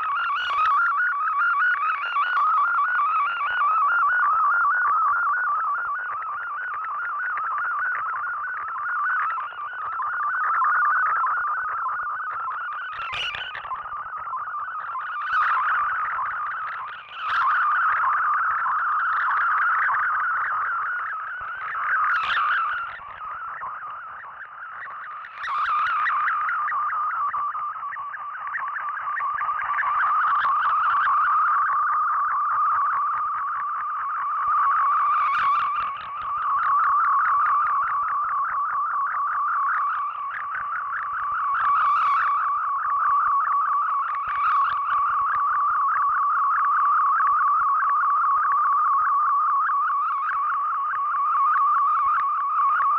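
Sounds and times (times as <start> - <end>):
shortwave radio data tones warbling: 0.0 - 52.9.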